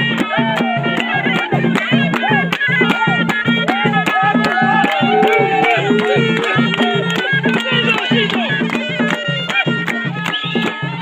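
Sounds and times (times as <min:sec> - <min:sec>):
shawm playing ornamented melody: 0:00.0 - 0:11.0
steady drum beat: 0:00.0 - 0:11.0.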